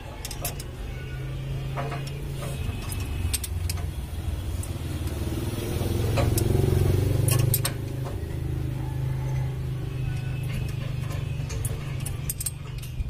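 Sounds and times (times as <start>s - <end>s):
tools clicking on engine parts: 0.0s - 13.0s.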